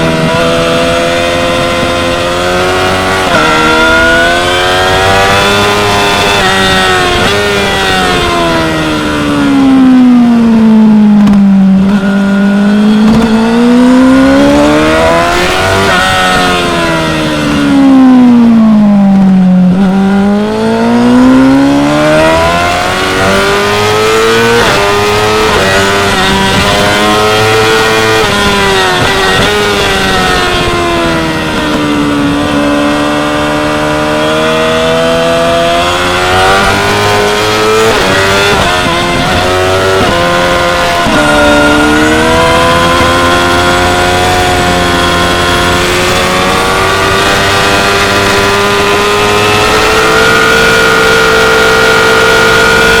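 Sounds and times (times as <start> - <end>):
sport bike engine revving: 0.0 - 53.0.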